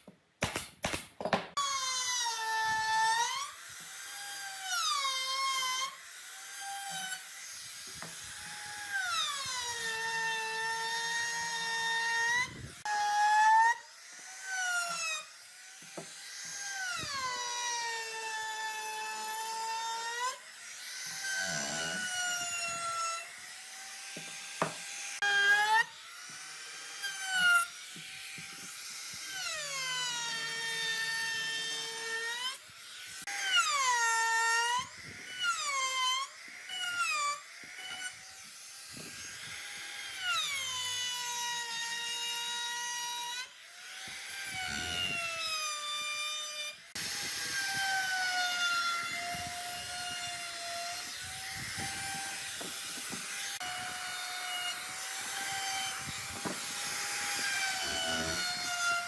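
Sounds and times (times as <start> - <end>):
power tool motor whining on wood: 1.6 - 59.0.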